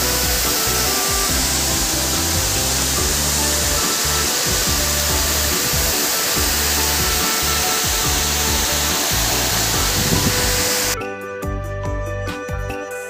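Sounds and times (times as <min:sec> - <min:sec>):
waterfall roaring: 0:00.0 - 0:11.0
faint music: 0:00.0 - 0:13.0.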